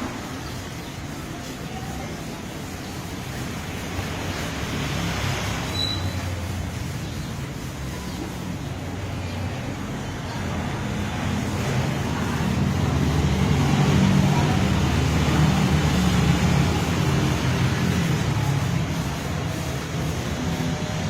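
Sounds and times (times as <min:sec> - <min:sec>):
vehicle engine running: 0:02.2 - 0:21.0.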